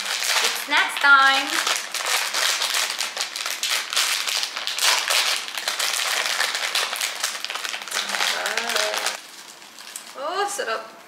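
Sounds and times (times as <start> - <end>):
plastic wrapper crinkling: 0.0 - 10.3.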